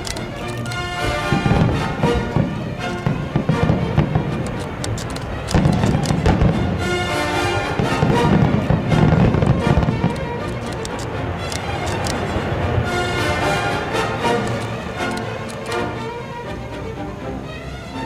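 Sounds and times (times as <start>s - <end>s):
low fireworks booms: 0.0s - 15.4s
fireworks bangs and crackles: 0.0s - 15.9s.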